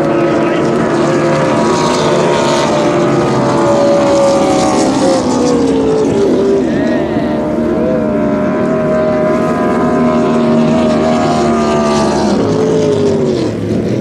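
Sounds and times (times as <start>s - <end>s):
powerboat engine drone: 0.0s - 14.0s.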